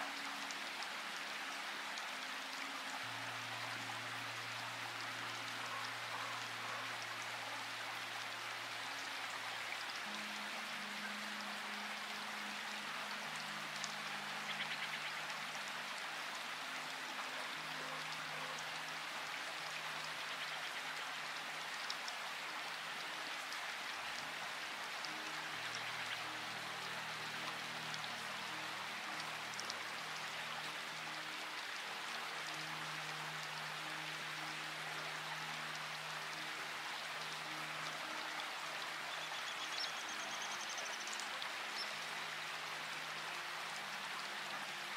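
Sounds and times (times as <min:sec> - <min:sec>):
rain falling: 0:00.0 - 0:44.9
soft music of low held notes: 0:00.0 - 0:44.9.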